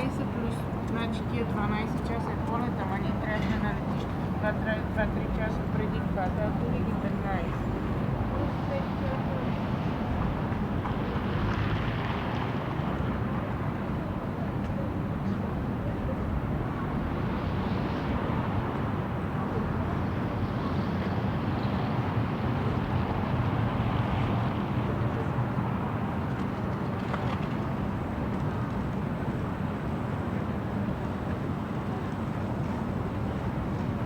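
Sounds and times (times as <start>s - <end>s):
low rumble of traffic: 0.0s - 34.0s.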